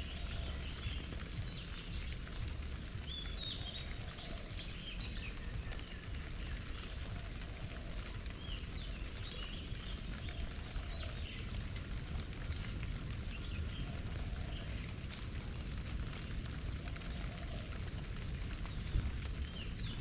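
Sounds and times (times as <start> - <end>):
small birds chirping: 0.0 - 20.0
water splashing in bird bath: 0.0 - 20.0.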